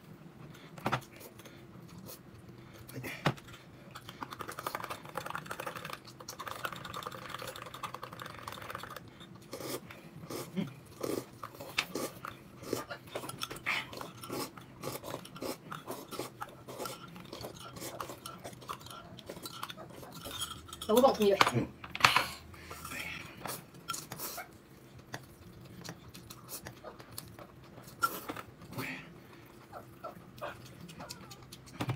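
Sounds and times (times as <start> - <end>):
chewing: 0.5 - 21.0, 22.6 - 31.9.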